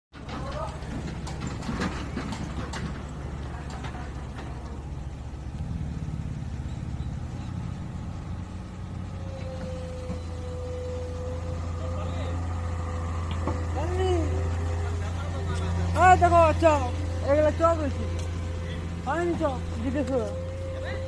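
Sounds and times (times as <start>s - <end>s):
diesel engines droning: 0.1s - 21.0s.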